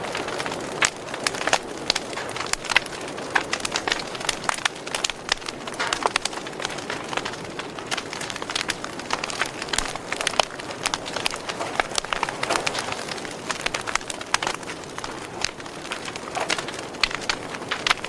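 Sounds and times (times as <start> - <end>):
low steady fire hiss: 0.0 - 18.0
wood fire crackling and popping: 0.0 - 18.0.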